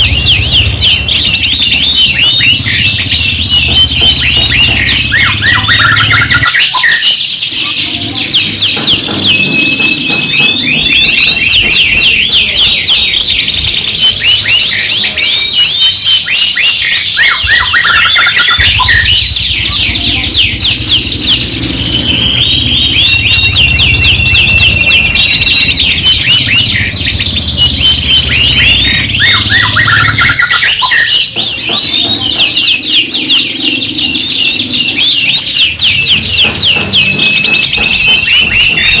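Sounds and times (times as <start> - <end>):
canaries singing: 0.0 - 39.0.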